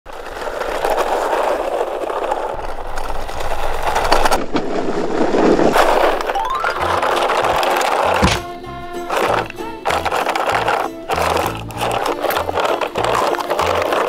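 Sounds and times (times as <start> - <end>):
toy cars rolling on plastic: 0.1 - 4.6, 5.4 - 14.0.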